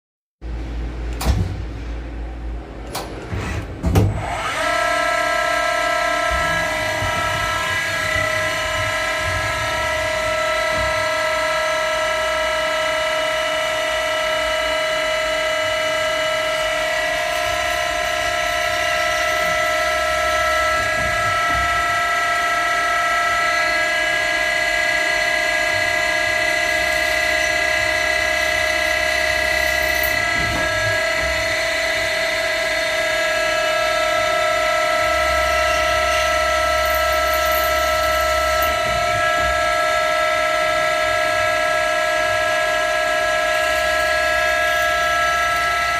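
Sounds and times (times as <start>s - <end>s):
lathe high-pitched whine: 4.2s - 45.9s.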